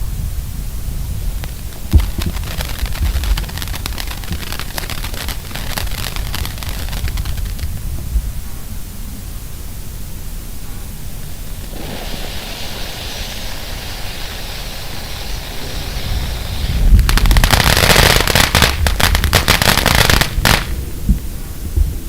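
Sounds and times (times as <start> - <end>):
firework fountain hissing: 0.3 - 8.0, 10.9 - 21.6
firework crackling: 0.3 - 8.1, 10.9 - 21.6.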